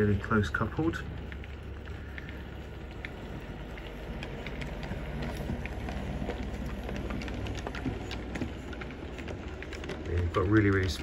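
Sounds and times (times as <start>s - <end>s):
light clicks of wheels: 0.0s - 11.0s.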